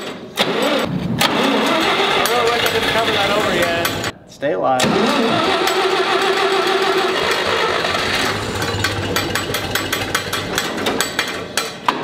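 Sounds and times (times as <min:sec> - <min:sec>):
tractor engine starting and running: 0:00.4 - 0:04.1, 0:04.8 - 0:11.9.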